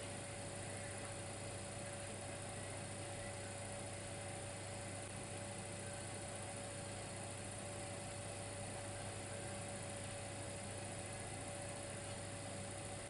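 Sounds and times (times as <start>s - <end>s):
electric fireplace heater humming: 0.0s - 13.0s.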